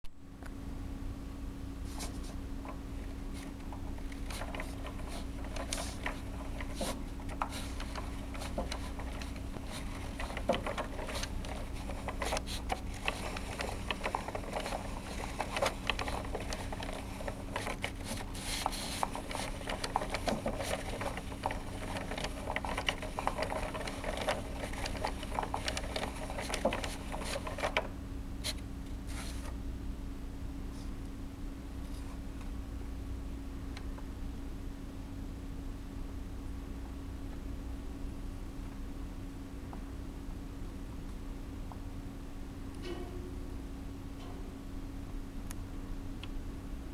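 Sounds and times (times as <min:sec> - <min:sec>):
steady low hum: 0:00.1 - 0:46.9.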